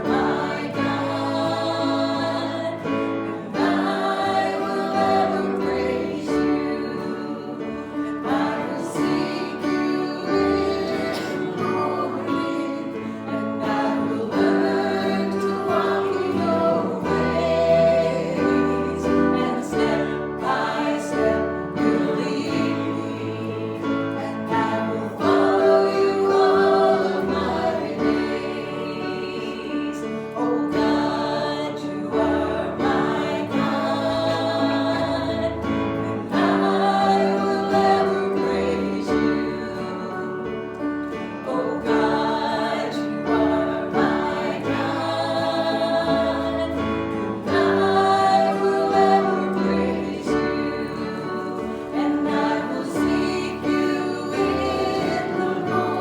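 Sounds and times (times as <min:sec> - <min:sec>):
congregation singing: 0:00.0 - 0:56.0.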